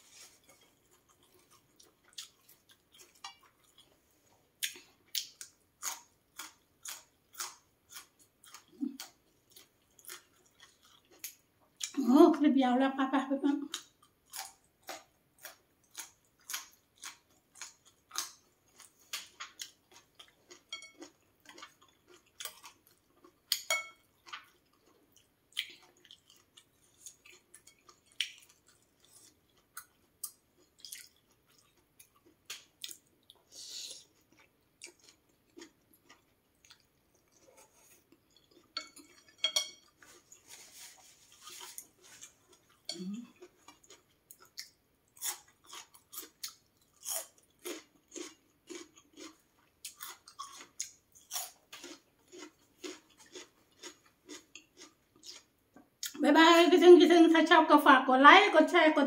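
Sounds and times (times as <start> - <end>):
person chewing crunchy vegetables: 0.0 - 12.0, 13.7 - 56.2.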